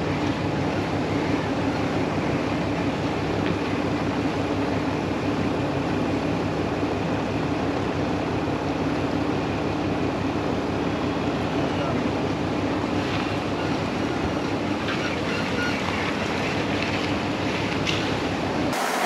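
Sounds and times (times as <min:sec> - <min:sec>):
vehicle driving rumble: 0:00.0 - 0:18.9.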